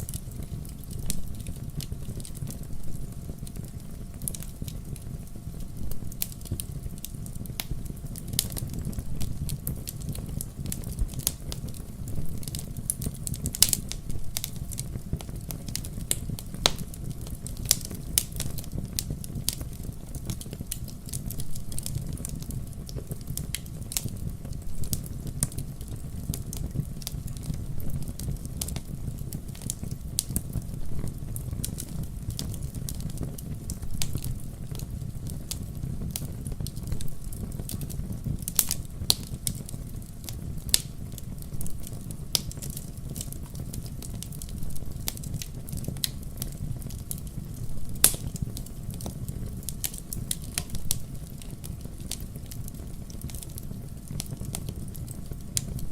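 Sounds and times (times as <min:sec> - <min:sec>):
fire crackling and popping: 0:00.0 - 0:55.9
fire rumbling: 0:00.0 - 0:55.9.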